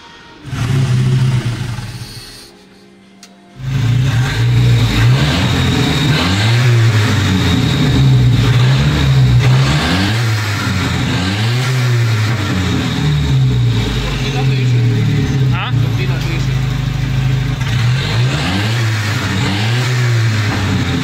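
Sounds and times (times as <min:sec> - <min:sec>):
engine revving: 0:00.0 - 0:02.5, 0:03.5 - 0:21.0
car engine idling: 0:00.0 - 0:02.6, 0:03.5 - 0:21.0.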